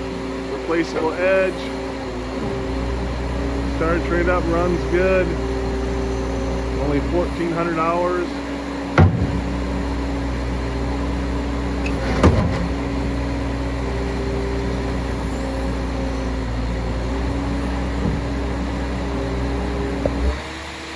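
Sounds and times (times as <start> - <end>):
skid steer engine running: 0.0 - 20.9.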